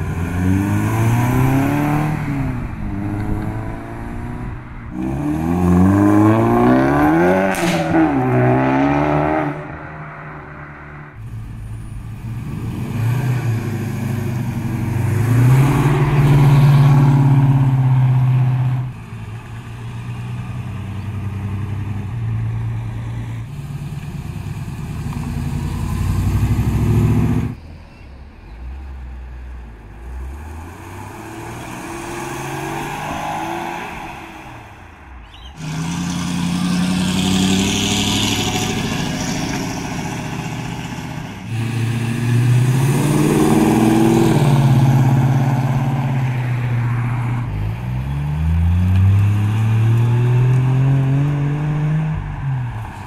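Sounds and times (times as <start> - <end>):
car engines revving accelerating: 0.0 - 27.6, 29.8 - 53.0.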